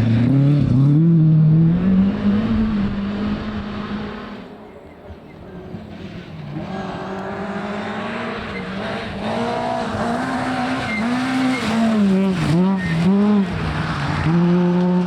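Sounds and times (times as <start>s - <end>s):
rally car engine approaching: 0.0s - 15.0s.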